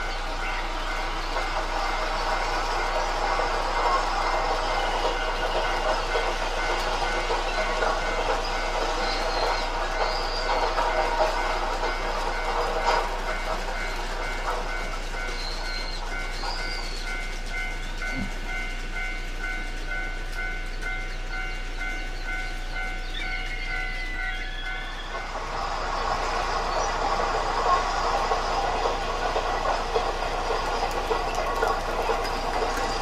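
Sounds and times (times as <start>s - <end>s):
train running on rails: 0.0s - 33.0s.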